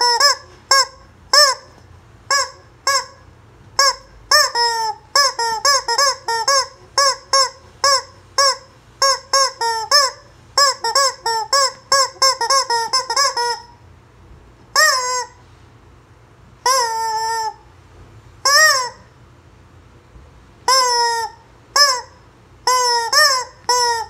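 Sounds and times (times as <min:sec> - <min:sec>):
rubber chicken toy squawking: 0:00.0 - 0:13.8, 0:14.7 - 0:15.4, 0:16.6 - 0:17.7, 0:18.4 - 0:19.2, 0:20.6 - 0:24.0.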